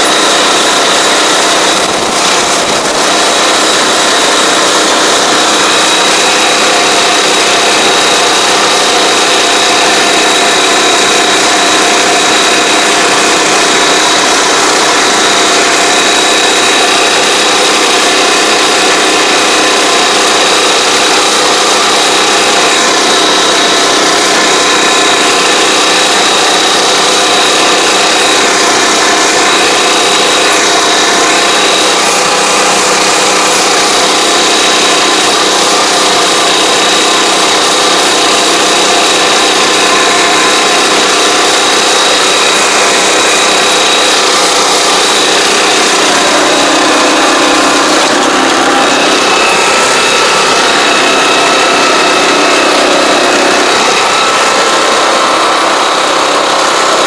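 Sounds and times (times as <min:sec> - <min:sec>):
high-pitched whine: 0:00.0 - 0:57.0
small engine running: 0:00.0 - 0:57.0.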